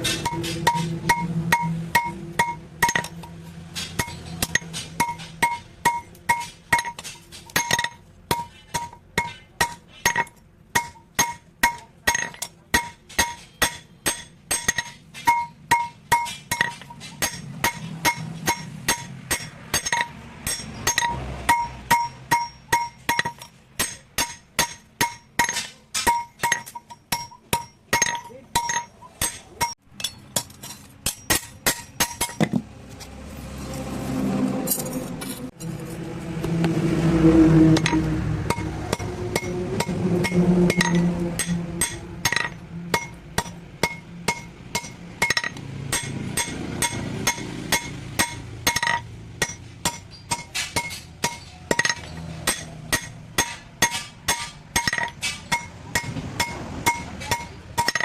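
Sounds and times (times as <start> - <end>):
hammer striking steel on anvil: 0.0 - 32.7, 37.8 - 58.0.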